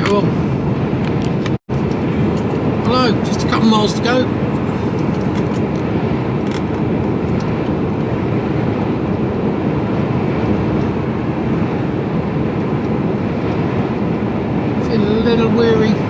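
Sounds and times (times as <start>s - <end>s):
lorry engine and road noise: 0.0s - 16.0s.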